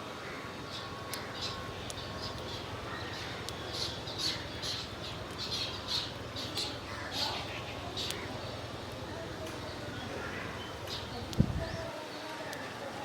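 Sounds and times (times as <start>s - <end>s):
low background hum: 0.4s - 11.9s
small birds chirping: 0.6s - 13.0s.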